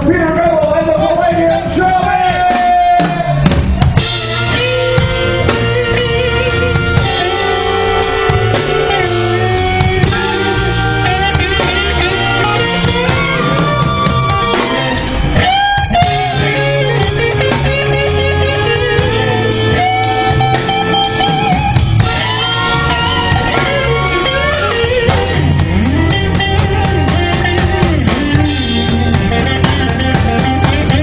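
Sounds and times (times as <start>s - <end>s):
band playing instrumental: 0.0s - 31.0s
drum kit with cymbals: 0.0s - 31.0s.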